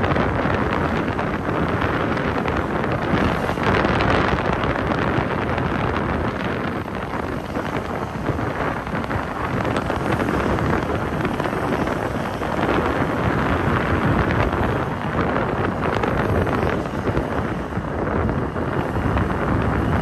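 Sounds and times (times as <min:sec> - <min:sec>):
vehicle road noise: 0:00.0 - 0:20.0
wind buffeting microphone: 0:00.0 - 0:20.0.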